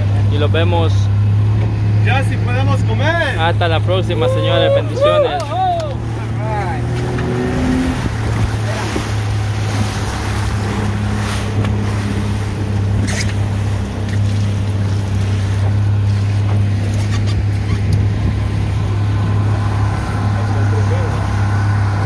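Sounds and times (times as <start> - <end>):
outboard motor humming: 0.0 - 22.0
water rushing around hull: 0.0 - 22.0
wind: 0.0 - 22.0.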